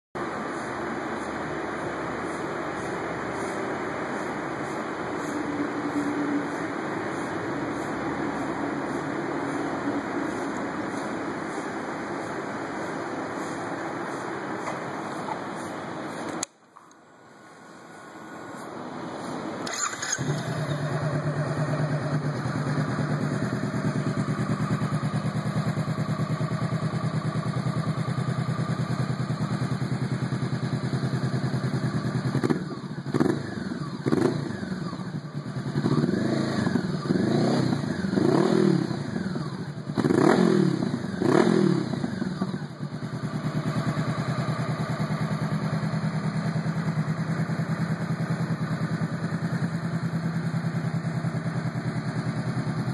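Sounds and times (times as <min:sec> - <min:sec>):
motorcycle engine idling and revving: 0:00.2 - 0:16.6, 0:17.8 - 0:52.9.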